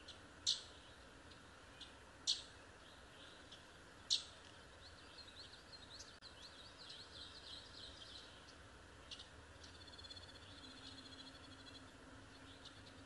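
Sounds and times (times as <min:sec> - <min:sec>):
faint birdsong: 0:00.0 - 0:13.0
steady background noise: 0:00.0 - 0:13.0.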